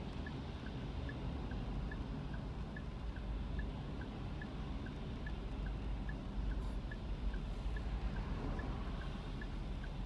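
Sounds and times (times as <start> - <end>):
turn signal ticking: 0.0 - 10.0.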